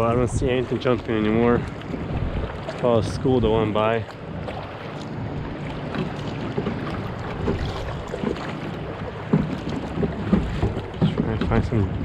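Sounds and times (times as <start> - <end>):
water lapping against kayak: 0.0 - 12.0
wind buffeting microphone: 0.0 - 12.0.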